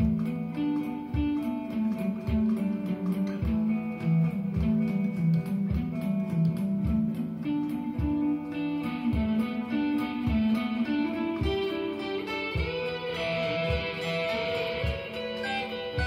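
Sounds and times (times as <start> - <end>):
guitar playing slow melody: 0.0 - 16.0
low thudding beat: 0.0 - 16.0.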